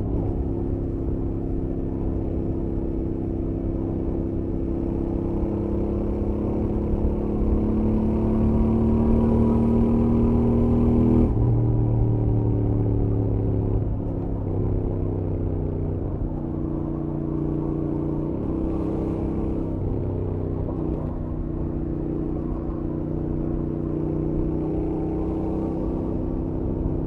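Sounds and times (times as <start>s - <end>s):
motorcycle engine at speed: 0.0s - 27.0s.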